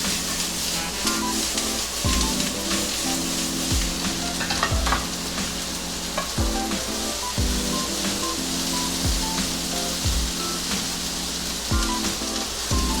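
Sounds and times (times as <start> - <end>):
background music: 0.0 - 13.0
vegetables sizzling in hot oil: 0.0 - 13.0.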